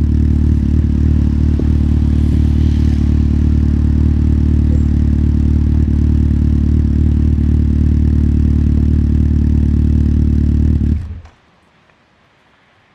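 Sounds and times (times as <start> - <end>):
motorcycle engine idling: 0.0 - 11.3.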